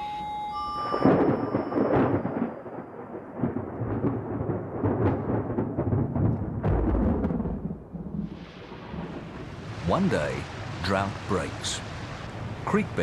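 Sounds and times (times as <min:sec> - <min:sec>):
thunder rumbling and cracking: 0:00.9 - 0:13.0.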